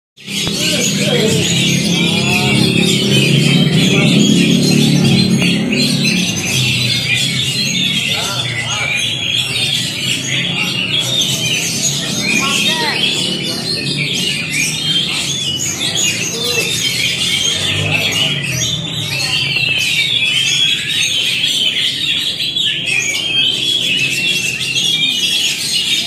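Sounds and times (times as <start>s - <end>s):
songbirds singing: 0.2s - 26.0s.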